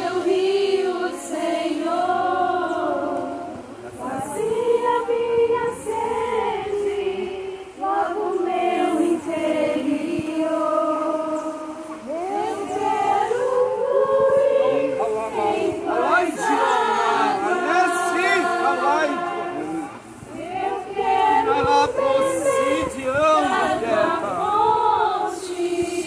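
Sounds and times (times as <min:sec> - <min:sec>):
group singing worship song: 0:00.0 - 0:26.0.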